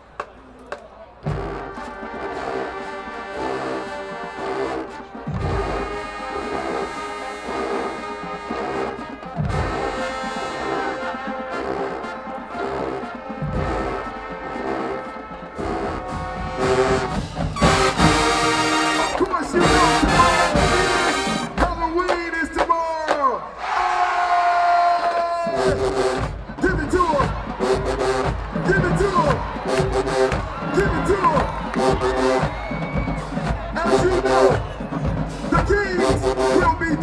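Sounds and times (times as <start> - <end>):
marching band playing: 0.1 - 22.7, 25.5 - 37.0.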